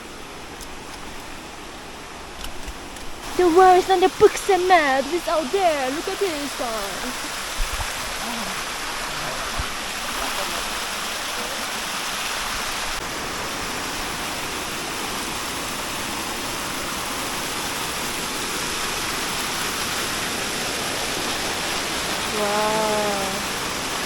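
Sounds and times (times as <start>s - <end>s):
waterfall rushing: 3.1s - 24.0s.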